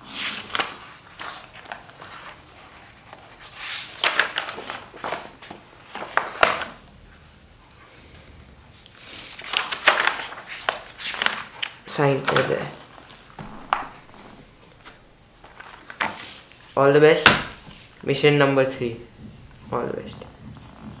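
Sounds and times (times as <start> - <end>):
paper pages rustling: 0.1 - 6.9, 9.2 - 21.0.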